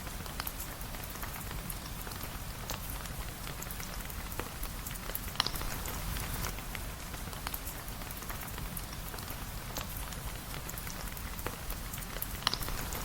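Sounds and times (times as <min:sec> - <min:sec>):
rain falling on a surface: 0:00.0 - 0:13.0
sharp drips and ticks: 0:00.0 - 0:13.0.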